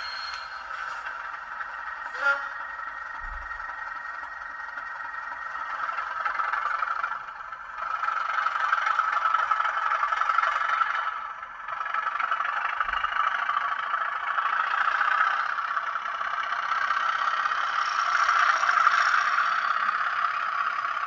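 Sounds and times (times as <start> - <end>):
thin diesel locomotive engine sound: 0.0 - 21.0.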